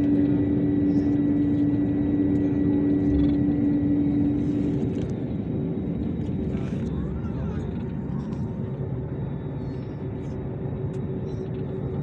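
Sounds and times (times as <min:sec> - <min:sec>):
airliner engines droning: 0:00.0 - 0:12.0.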